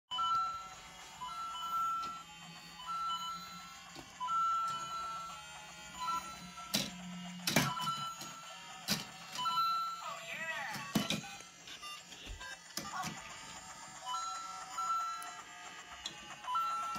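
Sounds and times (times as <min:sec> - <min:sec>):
toy electronic beeps and jingles: 0:00.1 - 0:16.9.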